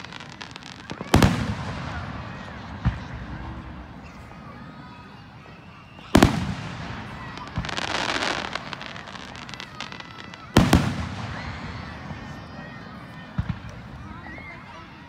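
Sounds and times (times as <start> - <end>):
fireworks double bang: 0.0 - 4.5, 5.9 - 12.6, 13.2 - 14.2
fireworks crackling: 0.0 - 15.0.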